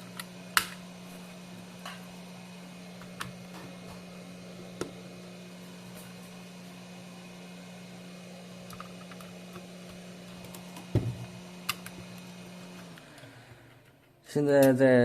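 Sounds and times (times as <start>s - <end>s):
low hum of workbench equipment: 0.0s - 15.0s.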